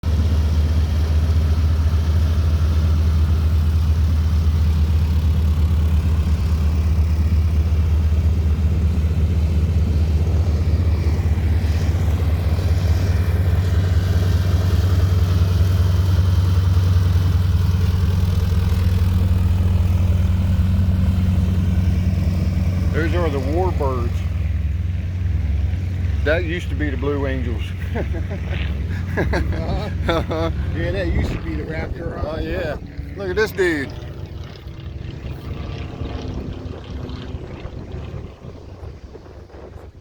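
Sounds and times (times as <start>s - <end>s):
loud low engine drone: 0.0s - 40.0s.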